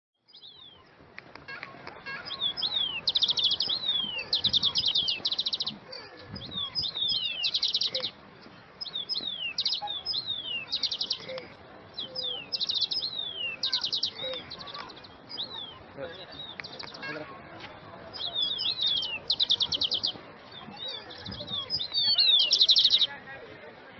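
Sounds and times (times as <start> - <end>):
songbirds singing: 0.2 - 23.3.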